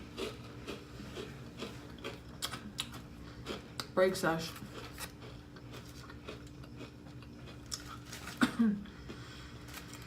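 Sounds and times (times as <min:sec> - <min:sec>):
faint steady hum: 0:00.0 - 0:10.0
person chewing: 0:00.0 - 0:10.0.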